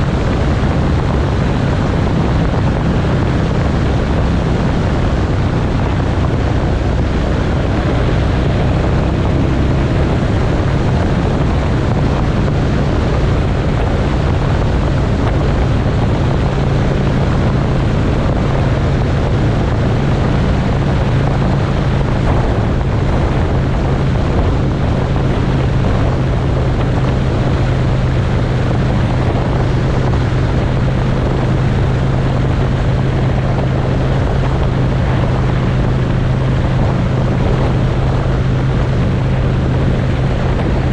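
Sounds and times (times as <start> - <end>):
motorcycle engine cruising: 0.0 - 40.9
wind rushing over microphone: 0.0 - 40.9.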